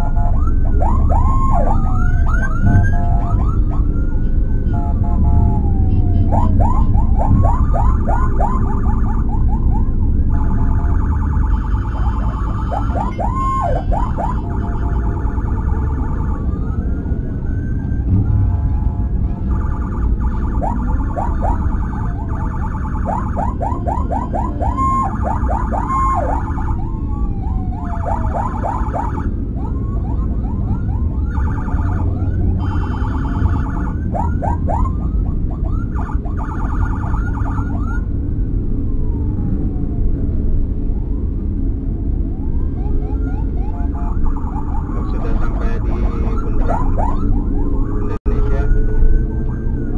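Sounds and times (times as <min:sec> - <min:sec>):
emergency vehicle sirens: 0:00.0 - 0:49.9
vehicle engine and road rumble: 0:00.0 - 0:49.9.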